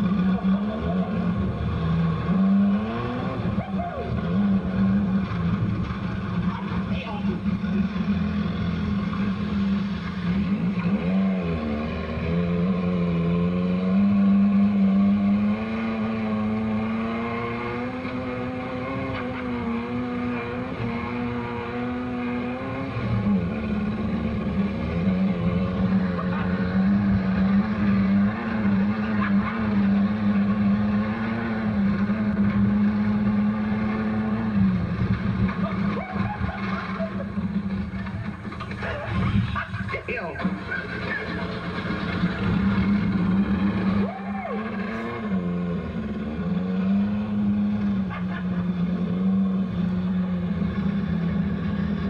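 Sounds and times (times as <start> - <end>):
dune buggy engine running hard: 0.0 - 52.0.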